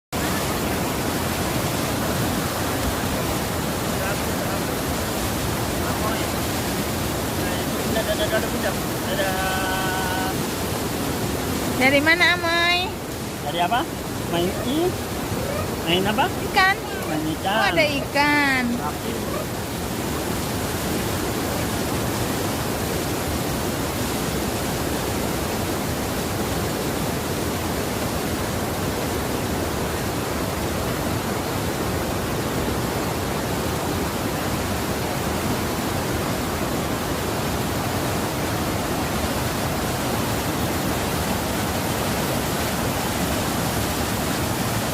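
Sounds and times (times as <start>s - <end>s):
river rushing: 0.2s - 44.9s.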